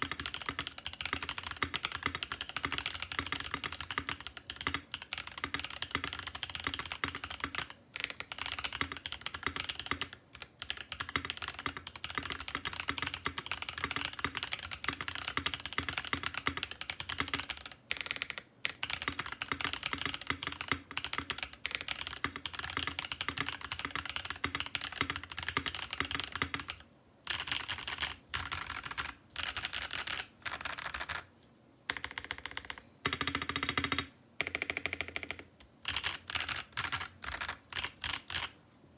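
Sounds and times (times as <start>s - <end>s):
mechanical keyboard typing: 0.0s - 31.3s, 31.9s - 38.6s.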